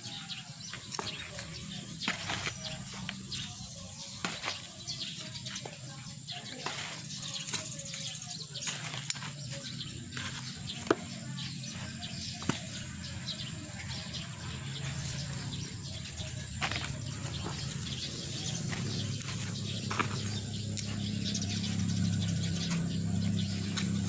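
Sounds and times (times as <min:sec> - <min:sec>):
hand cultivator scratching soil: 0:00.0 - 0:24.0.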